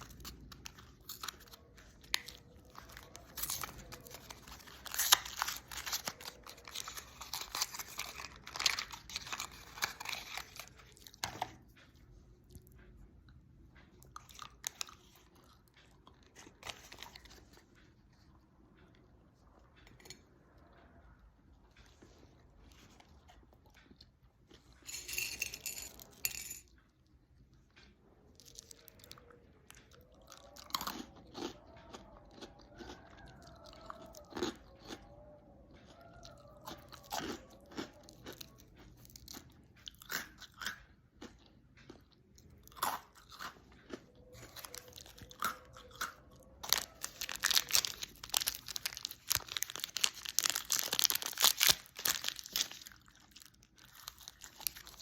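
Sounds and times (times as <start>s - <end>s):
chewing crunchy food: 0.0s - 25.0s, 25.9s - 55.0s.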